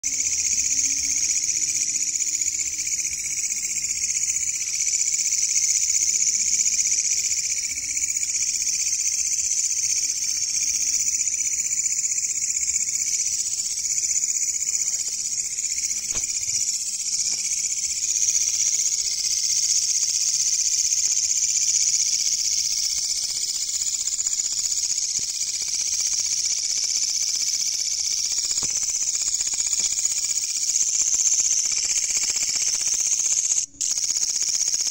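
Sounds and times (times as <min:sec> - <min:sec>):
katydid buzzing trill: 0:00.1 - 0:34.9.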